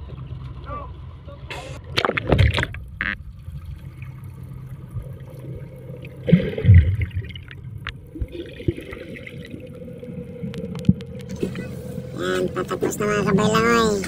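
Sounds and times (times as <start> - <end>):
steady low hum: 0.0 - 14.0
water sloshing against a boat: 0.0 - 14.0.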